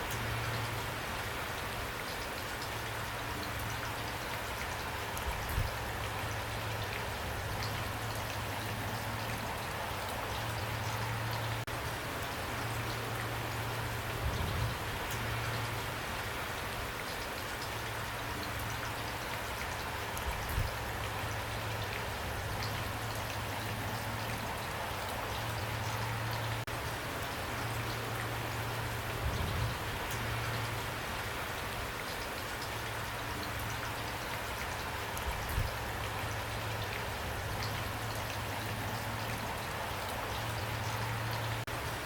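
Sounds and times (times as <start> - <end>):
raindrops ticking: 0.0 - 42.0
steady rain: 0.0 - 42.0.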